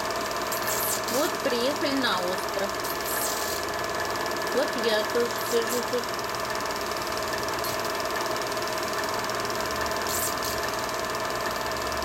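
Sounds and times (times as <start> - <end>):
film projector whirring and clattering: 0.0 - 12.0.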